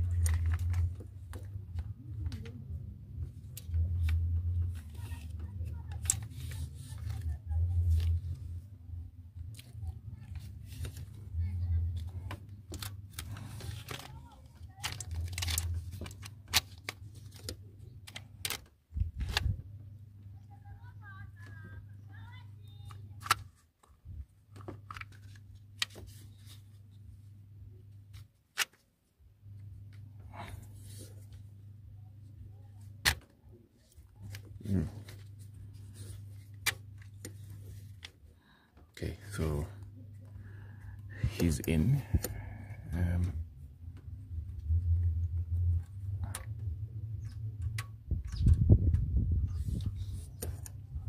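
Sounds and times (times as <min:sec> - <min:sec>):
low hum: 0:00.0 - 0:23.3, 0:29.2 - 0:51.0.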